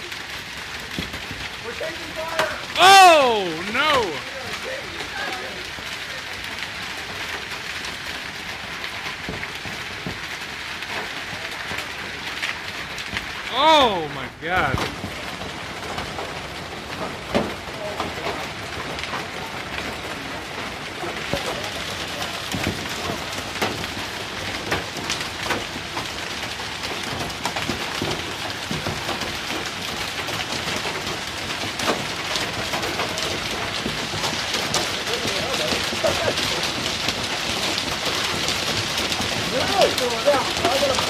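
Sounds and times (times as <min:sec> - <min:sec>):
hailstones pelting down: 0:00.0 - 0:41.0.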